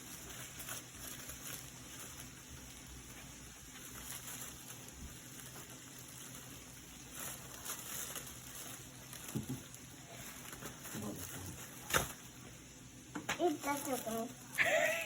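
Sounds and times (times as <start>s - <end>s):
toy packaging rustling and tearing: 0.0s - 12.3s, 13.4s - 14.7s.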